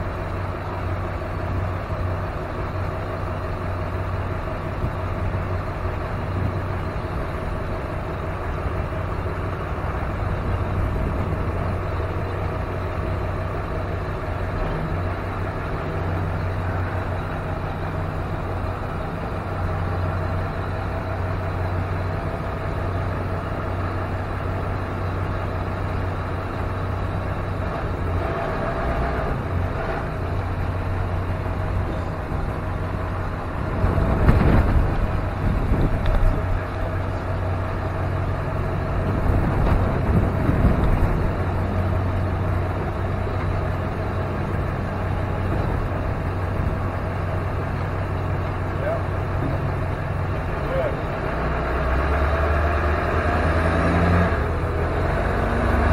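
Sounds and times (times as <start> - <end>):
truck engine droning: 0.0 - 55.9.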